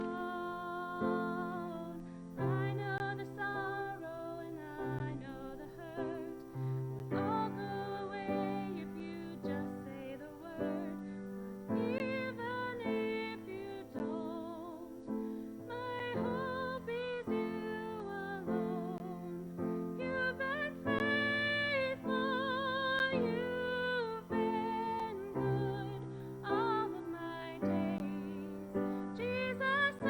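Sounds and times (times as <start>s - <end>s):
piano accompaniment: 0.0s - 30.0s
woman singing with vibrato: 0.0s - 30.0s.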